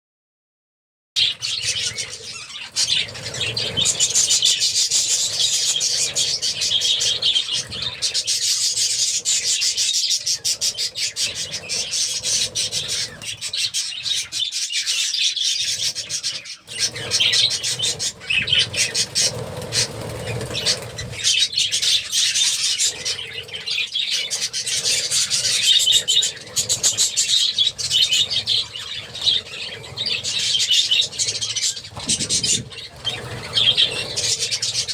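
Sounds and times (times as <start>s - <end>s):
flock of budgerigars chattering: 1.2s - 34.9s.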